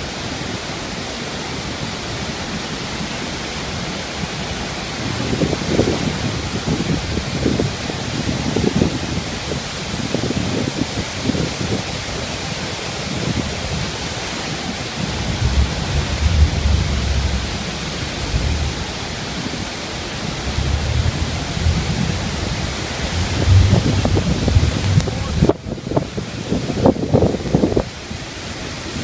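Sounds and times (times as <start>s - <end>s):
deep rumbling water: 0.0s - 29.0s
waterfall rushing: 0.0s - 29.0s.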